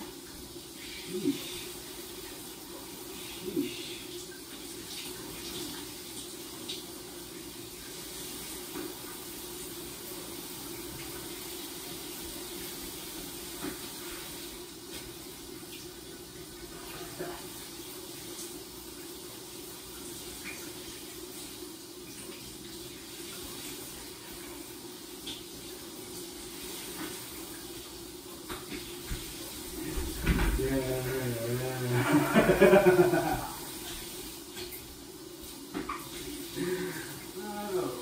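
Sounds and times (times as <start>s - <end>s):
shower water spray: 0.0s - 38.0s.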